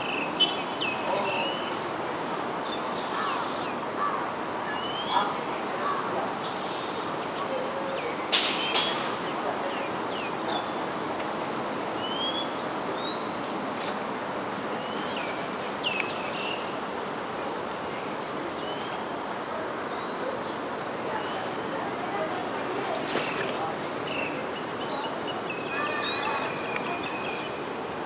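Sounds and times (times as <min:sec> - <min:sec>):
birds chirping: 0:00.0 - 0:28.0
outdoor background hiss: 0:00.0 - 0:28.0.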